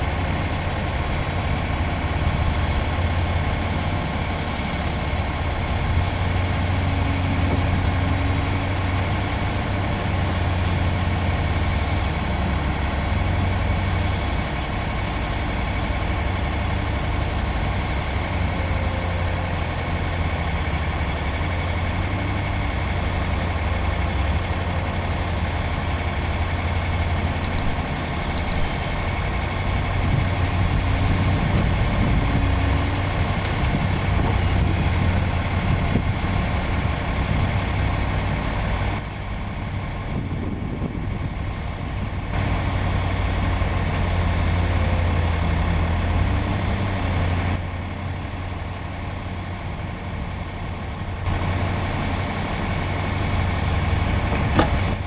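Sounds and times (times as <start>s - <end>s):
heavy diesel engines rumbling: 0.0s - 55.0s.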